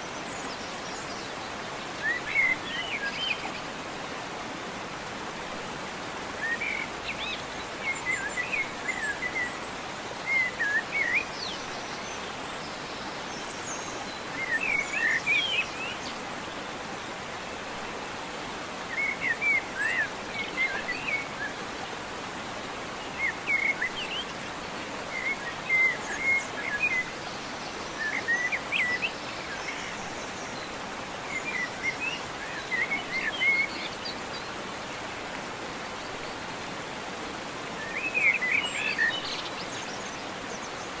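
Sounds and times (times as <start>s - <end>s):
steady outdoor hiss: 0.0s - 41.0s.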